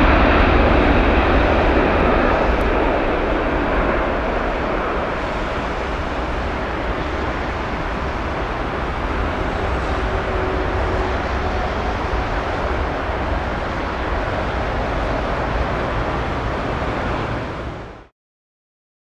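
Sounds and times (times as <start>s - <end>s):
jet engines rumbling at takeoff: 0.0s - 18.1s.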